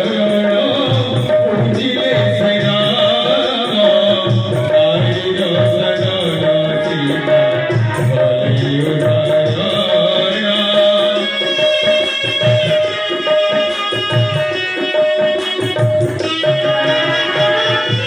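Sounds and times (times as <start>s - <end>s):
hand drums playing rhythm: 0.0s - 18.0s.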